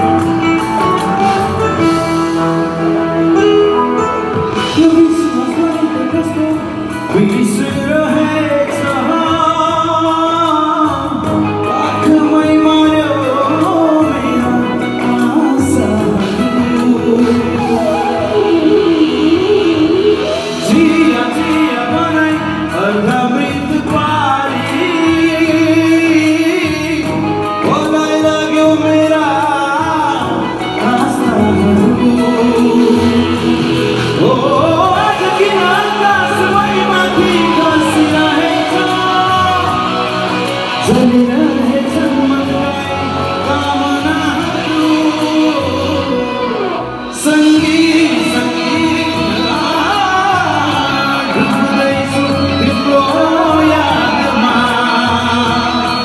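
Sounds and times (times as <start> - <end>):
amplified backing music: 0.0 - 56.0
man singing into a microphone: 0.0 - 56.0.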